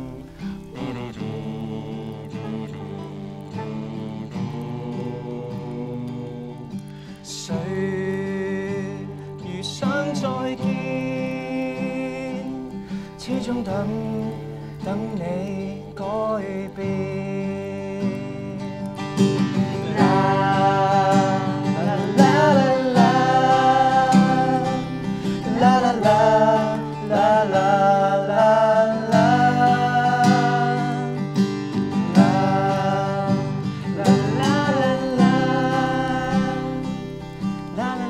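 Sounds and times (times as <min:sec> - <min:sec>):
acoustic guitar strumming: 0:00.0 - 0:38.0
people singing a pop song: 0:00.0 - 0:38.0.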